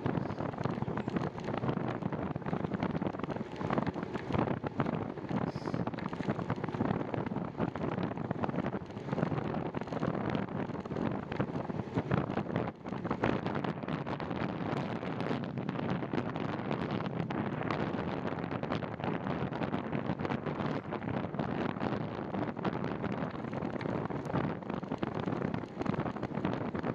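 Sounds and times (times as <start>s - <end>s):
gusty wind thumps: 0.0s - 26.9s
wind rushing over microphone: 0.0s - 26.9s.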